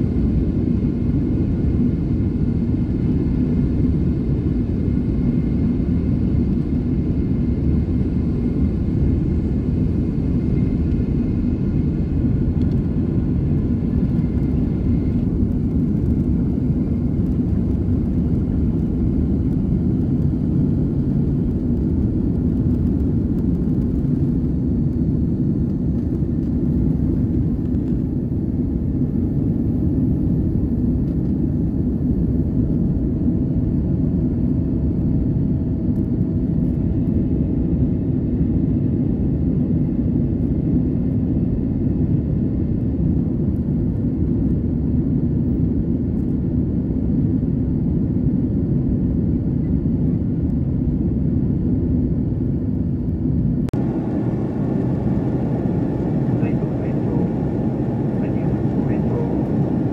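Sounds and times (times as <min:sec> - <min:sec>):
jet engines roaring at takeoff: 0:00.0 - 0:59.9.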